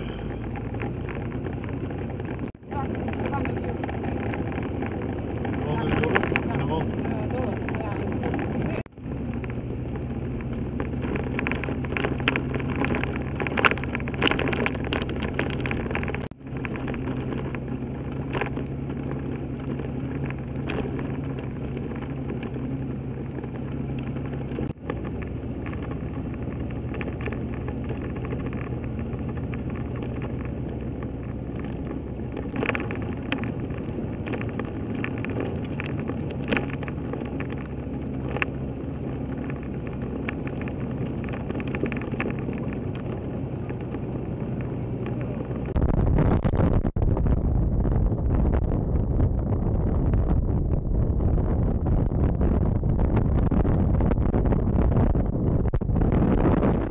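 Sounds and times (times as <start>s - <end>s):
vehicle engine hum and road noise: 0.0s - 56.9s.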